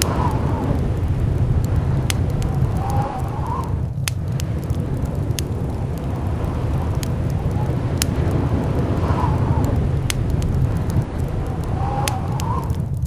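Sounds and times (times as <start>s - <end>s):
blizzard wind howling: 0.0s - 13.0s
sharp clicks and crackles: 0.0s - 13.0s.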